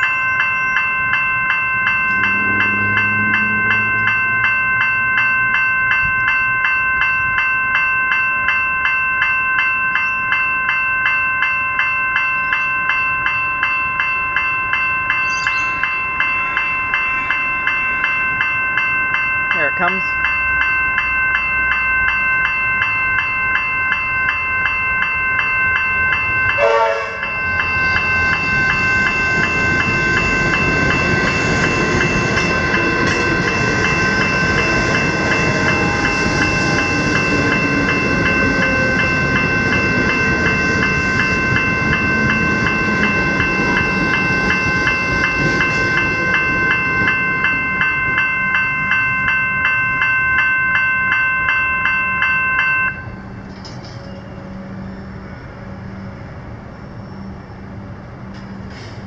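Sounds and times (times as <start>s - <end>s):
level crossing bells ringing: 0.0s - 54.4s
electric train passing: 0.0s - 59.0s.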